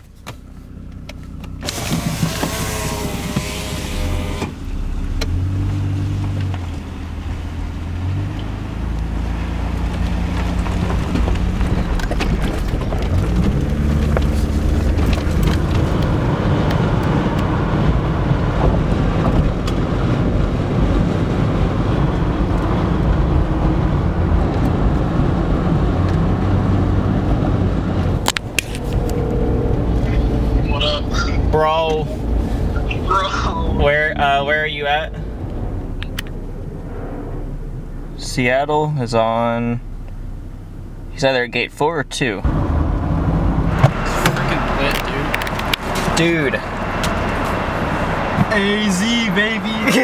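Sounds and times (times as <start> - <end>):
road noise: 0.0 - 50.0
car engine changing pitch: 0.2 - 50.0.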